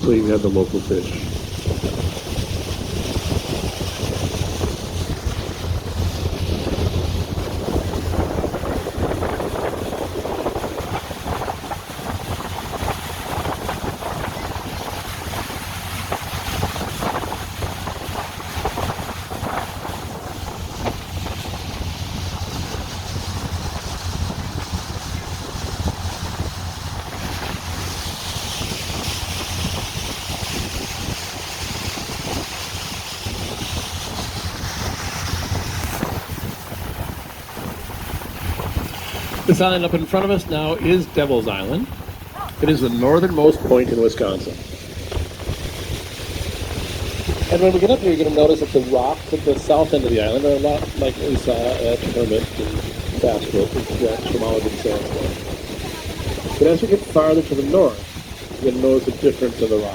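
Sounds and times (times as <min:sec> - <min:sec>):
boat engine drone: 0:00.0 - 0:59.9
water rushing past hull: 0:00.0 - 0:59.9
wind buffeting microphone: 0:00.0 - 0:59.9.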